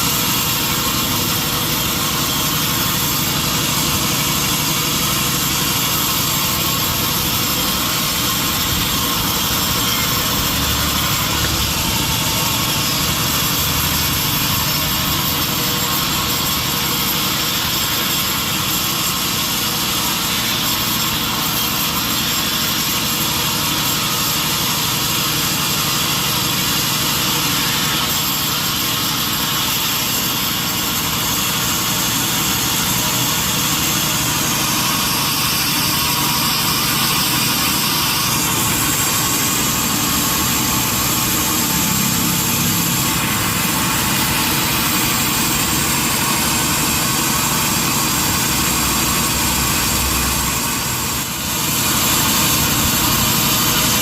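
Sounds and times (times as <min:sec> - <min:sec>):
sawmill machinery with high whine: 0:00.0 - 0:54.0.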